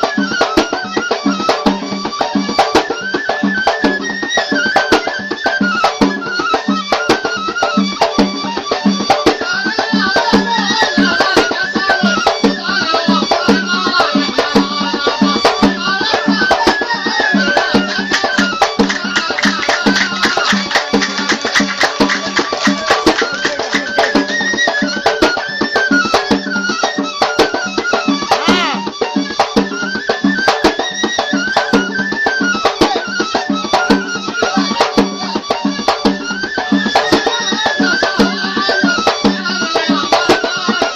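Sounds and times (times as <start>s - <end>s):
reed pipe melody: 0.0s - 38.7s
drum beating fast: 0.0s - 40.9s.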